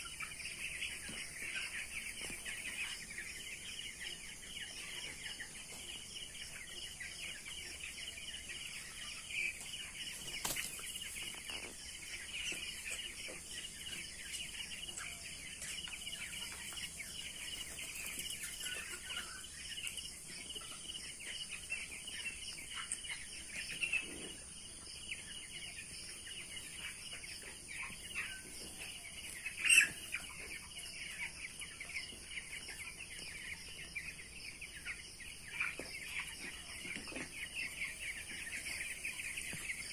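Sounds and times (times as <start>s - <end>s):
chickens chattering: 0.0s - 39.9s.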